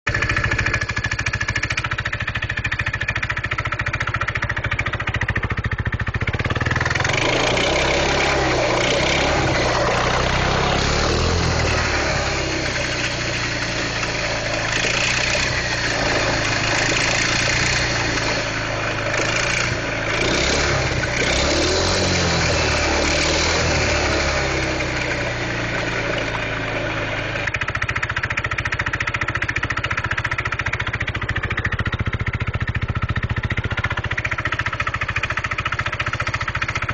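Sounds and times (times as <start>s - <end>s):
scooter engine idling and revving: 0.0s - 36.9s.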